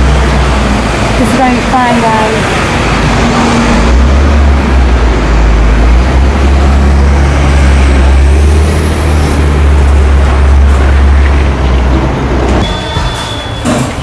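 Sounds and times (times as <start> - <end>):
truck engine low rumble: 0.0 - 12.7
street traffic: 0.0 - 14.0.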